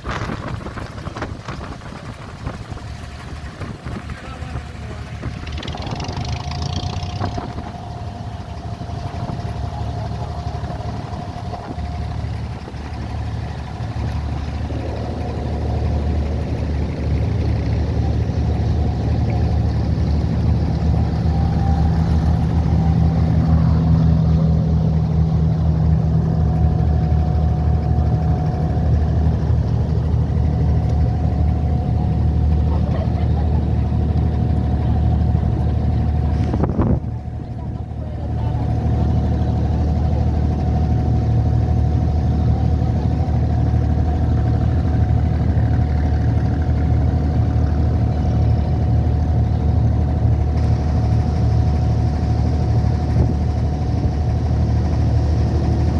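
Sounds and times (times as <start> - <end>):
boat engine running: 0.0 - 55.9.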